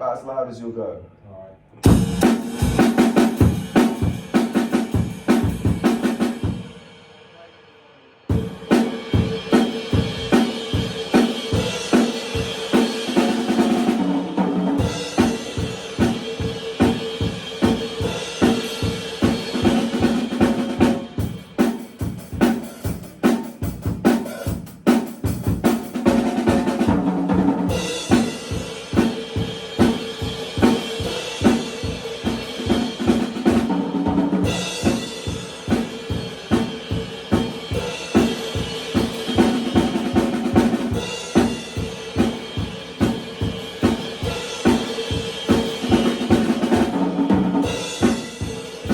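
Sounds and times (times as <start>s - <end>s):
snare drum: 1.8s - 6.4s, 8.7s - 29.2s, 29.8s - 48.9s
cymbals: 1.8s - 27.1s, 27.7s - 48.9s.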